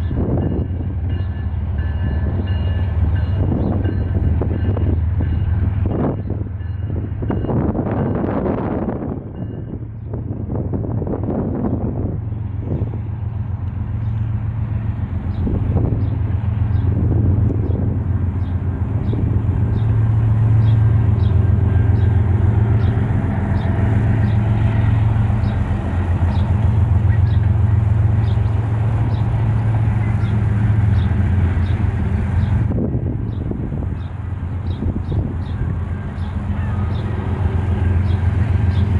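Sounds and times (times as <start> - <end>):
diesel locomotive engine throb: 0.0 - 38.9.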